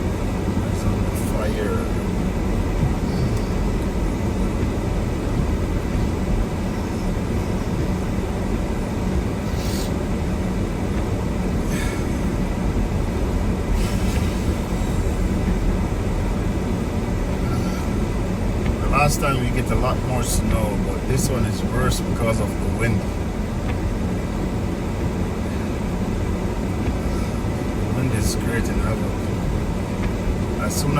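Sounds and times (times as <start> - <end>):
car driving on snowy road: 0.0 - 30.9.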